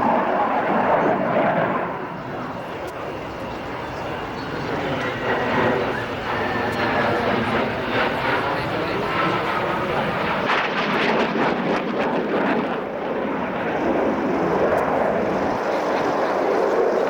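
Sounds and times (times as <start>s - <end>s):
aircraft engine flying past: 0.0s - 17.0s.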